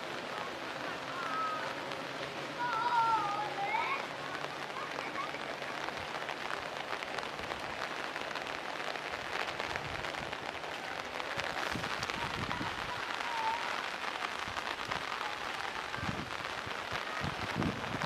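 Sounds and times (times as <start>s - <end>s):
heavy rain on water: 0.0s - 18.0s.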